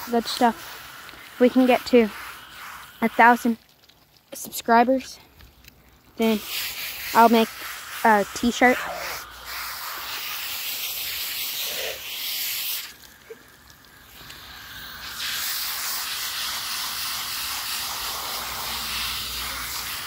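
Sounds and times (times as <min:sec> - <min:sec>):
hose nozzle spraying water: 0:00.0 - 0:05.1, 0:06.2 - 0:20.0.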